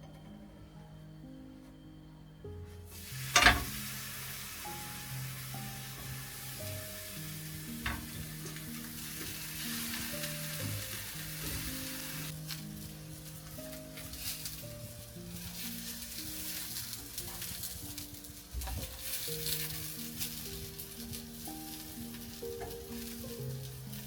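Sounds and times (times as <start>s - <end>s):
soft background music: 0.0s - 24.0s
food sizzling in a pan: 2.7s - 24.0s.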